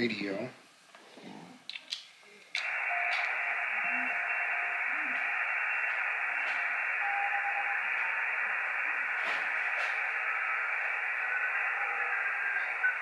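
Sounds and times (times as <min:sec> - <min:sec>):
radio receiver hiss: 0:02.6 - 0:13.0.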